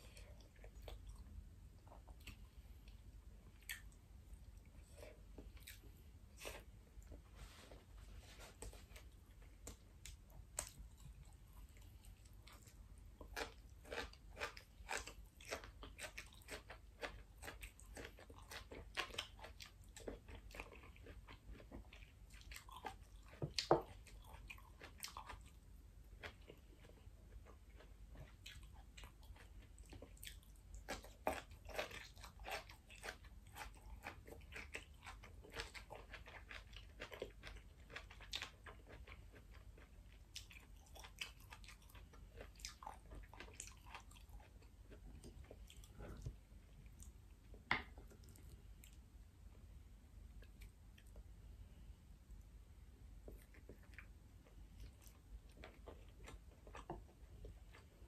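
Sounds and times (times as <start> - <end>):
crunchy chewing: 0.0 - 47.4, 53.2 - 58.0
soft chewing: 0.0 - 58.0.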